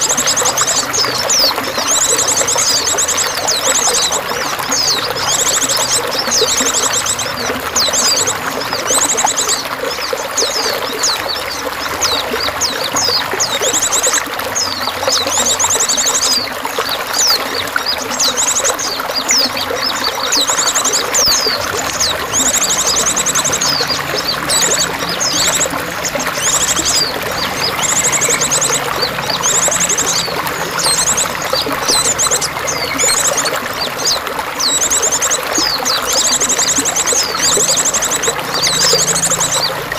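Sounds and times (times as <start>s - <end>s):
running splashing water: 0.0s - 39.9s
songbirds chirping and trilling: 0.0s - 39.9s.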